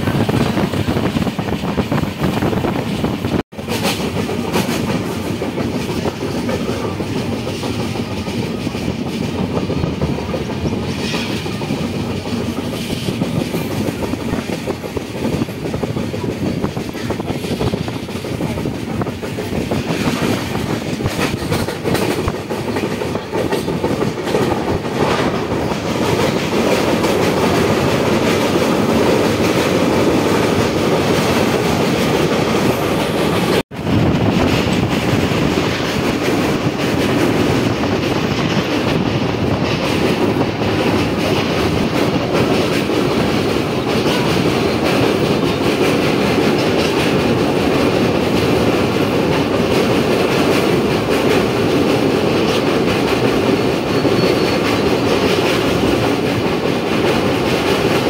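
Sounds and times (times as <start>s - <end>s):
clickety-clack of rail joints: 0.0s - 58.0s
train wheels rumbling on rails: 0.0s - 58.0s.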